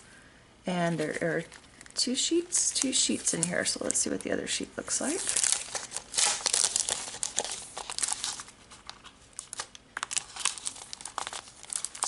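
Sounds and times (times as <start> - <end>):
plastic sleeve crinkling: 0.9 - 12.0.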